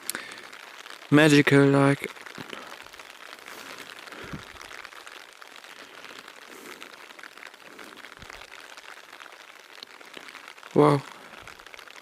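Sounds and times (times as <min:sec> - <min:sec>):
rain pattering in forest: 0:00.0 - 0:12.0.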